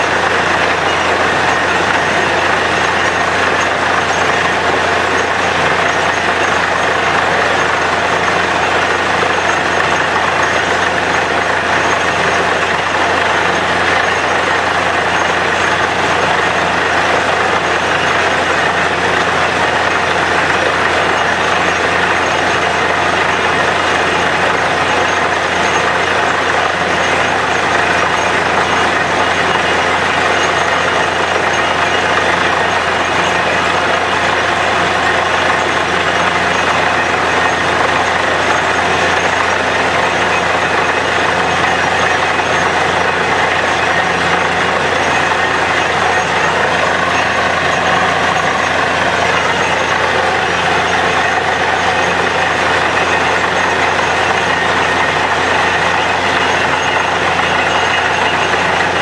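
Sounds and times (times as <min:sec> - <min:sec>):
drilling rig engine running: 0:00.0 - 0:59.0.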